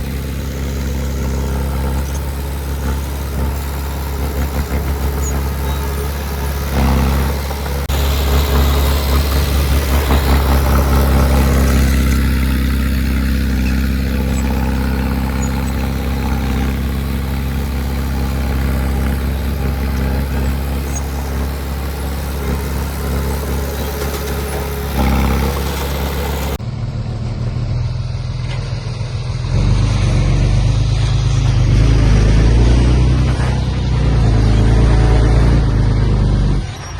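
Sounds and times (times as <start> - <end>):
another engine: 0.0 - 36.9
heavy diesel engine running: 0.0 - 36.9.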